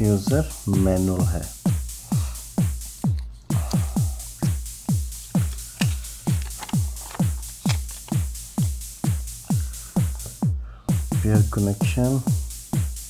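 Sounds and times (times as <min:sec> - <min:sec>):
electronic dance music: 0:00.0 - 0:13.0.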